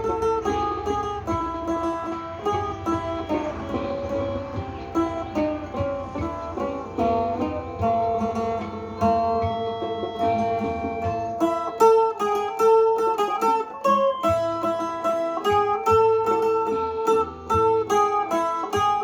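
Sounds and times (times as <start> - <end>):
plucked lute melody: 0.0 - 19.0.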